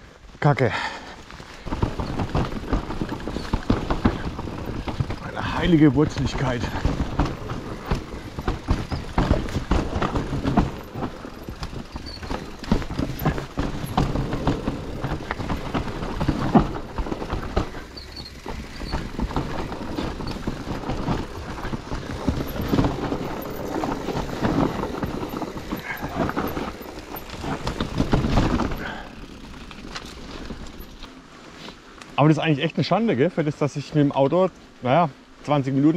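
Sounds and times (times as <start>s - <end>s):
bike clattering: 0.8s - 32.3s
bike tyres knocking over roots: 0.8s - 32.4s.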